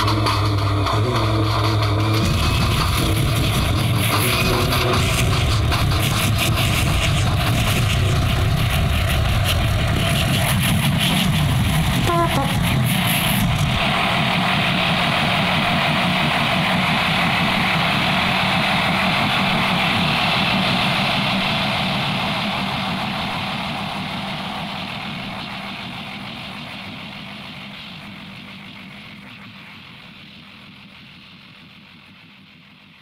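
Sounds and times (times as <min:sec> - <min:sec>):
train rumbling: 0:00.0 - 0:27.8.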